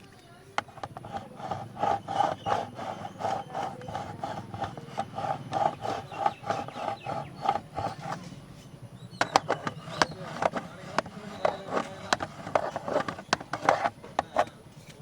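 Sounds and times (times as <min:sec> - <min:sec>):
scratching on camera body: 0:00.6 - 0:15.0.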